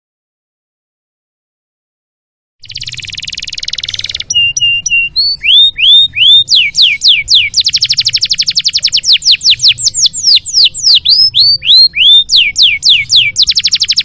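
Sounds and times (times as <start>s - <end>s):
canary singing: 2.6s - 14.0s.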